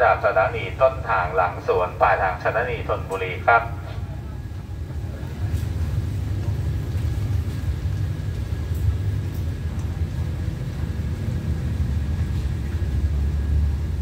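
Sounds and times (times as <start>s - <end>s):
diesel locomotive idling rumble: 0.0s - 14.0s.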